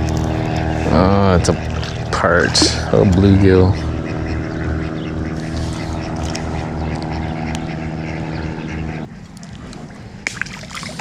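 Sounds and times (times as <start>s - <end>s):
motor engine droning: 0.0s - 11.0s.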